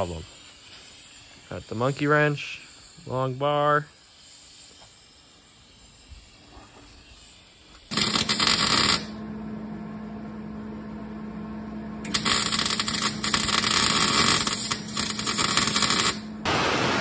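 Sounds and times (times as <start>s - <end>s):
steady hum and hiss: 0.0s - 9.3s, 12.0s - 17.0s
arc welder crackling and sizzling: 0.0s - 9.4s, 12.0s - 17.0s.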